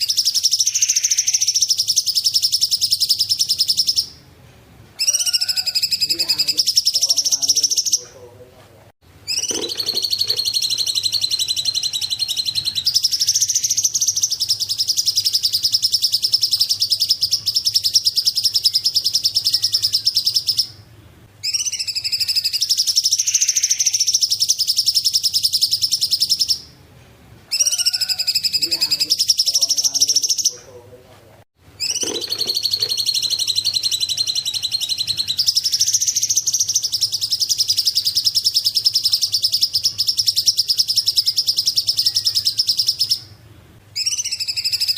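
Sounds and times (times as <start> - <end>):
bird singing high rapid trills: 0.0 - 4.2, 5.0 - 8.1, 9.2 - 26.8, 31.8 - 44.9.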